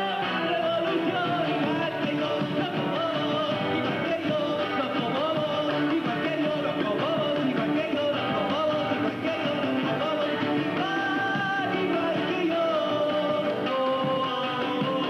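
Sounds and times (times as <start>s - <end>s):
person singing: 0.0s - 15.0s
strummed acoustic guitar: 0.0s - 15.0s.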